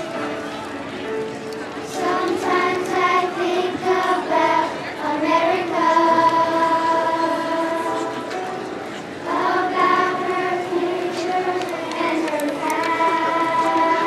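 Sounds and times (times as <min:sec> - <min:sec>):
children's choir singing: 0:00.0 - 0:00.6, 0:01.8 - 0:14.0.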